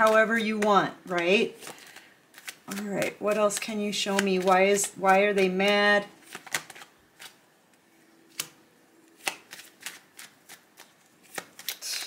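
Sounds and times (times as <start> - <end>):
cards being shuffled: 0.0 - 7.4, 8.3 - 12.0.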